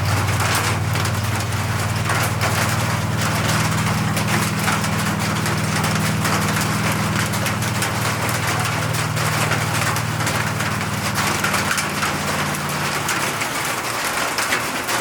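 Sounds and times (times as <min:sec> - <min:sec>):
low mechanical hum: 0:00.0 - 0:14.2
dripping ticks: 0:00.0 - 0:15.0
steady rain falling: 0:00.0 - 0:15.0.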